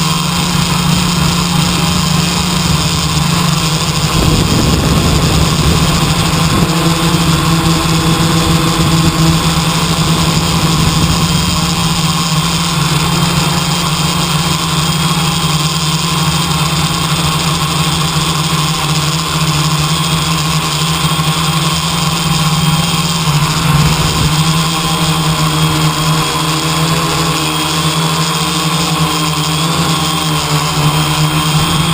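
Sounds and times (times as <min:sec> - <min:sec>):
engine hum: 0:00.0 - 0:31.9.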